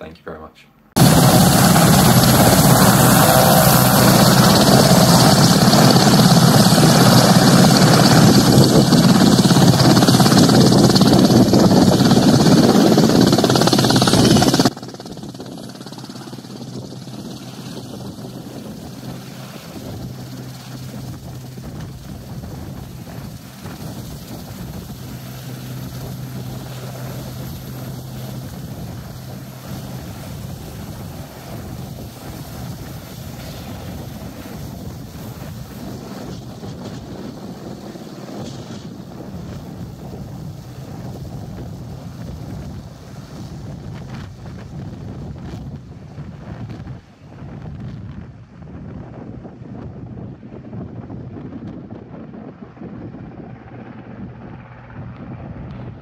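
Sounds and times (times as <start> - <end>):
helicopter engines and rotor: 1.0 - 56.0.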